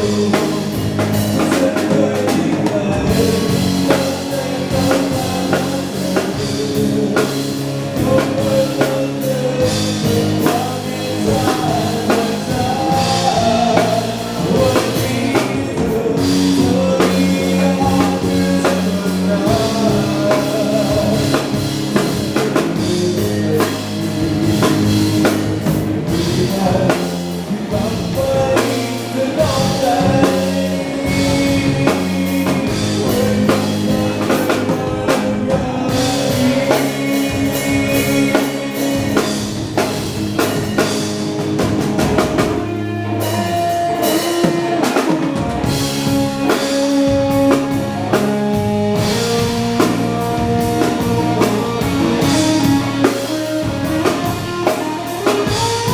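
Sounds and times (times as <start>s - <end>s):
drum kit beat: 0.0s - 55.9s
live band playing dance song: 0.0s - 55.9s
person singing: 0.0s - 55.9s.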